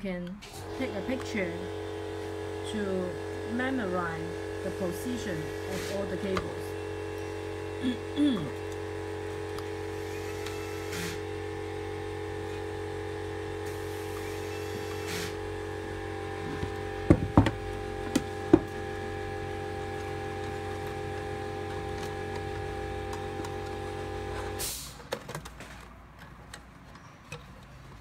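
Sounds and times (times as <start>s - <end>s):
steady electrical hum: 0.0s - 24.7s.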